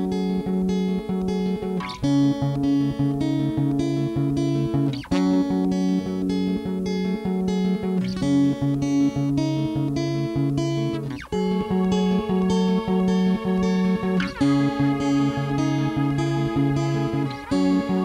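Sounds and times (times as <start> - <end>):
guitar picking: 0.0 - 18.0.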